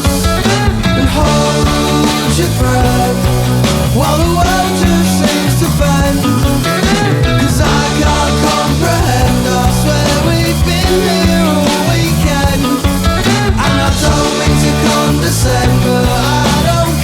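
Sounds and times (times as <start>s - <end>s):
lead guitar bending notes: 0.0s - 16.2s
instrumental rock music: 0.0s - 17.0s.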